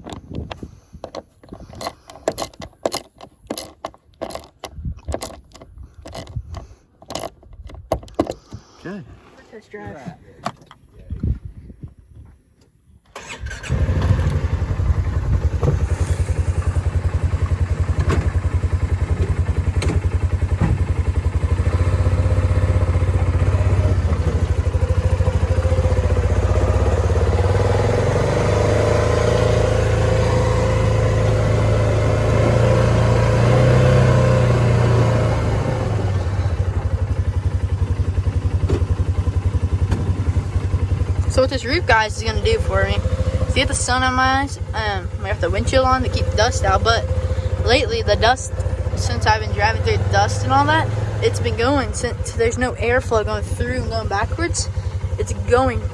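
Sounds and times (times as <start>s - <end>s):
engine starting and running: 0.0s - 9.3s, 13.0s - 55.9s.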